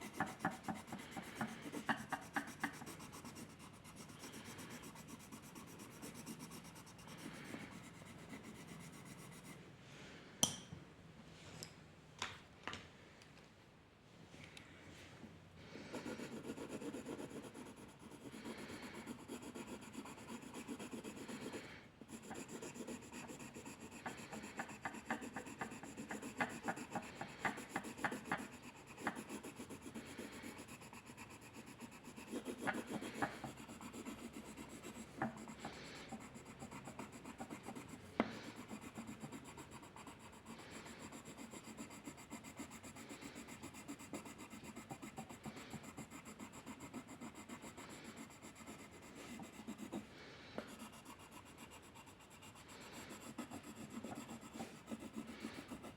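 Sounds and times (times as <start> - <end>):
drawing tool scratching paper: 0.0 - 9.6, 15.9 - 55.9.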